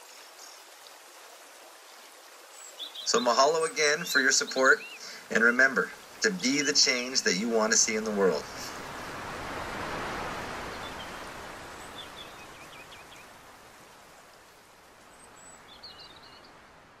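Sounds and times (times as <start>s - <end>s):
birds chirping faintly: 0.0s - 17.0s
rushing outdoor noise: 0.0s - 17.0s.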